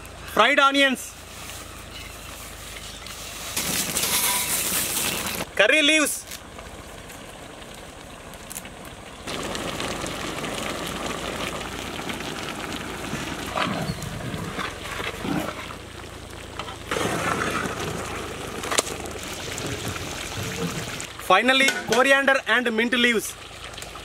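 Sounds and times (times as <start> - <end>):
gravy sizzling and bubbling: 1.2 - 5.6, 6.3 - 24.0.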